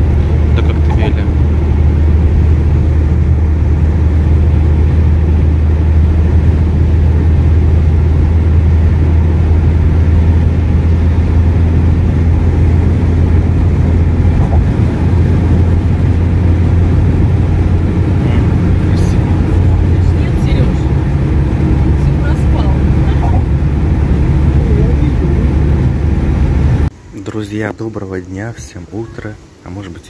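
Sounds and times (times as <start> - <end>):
car cruising at highway speed: 0.0 - 26.9.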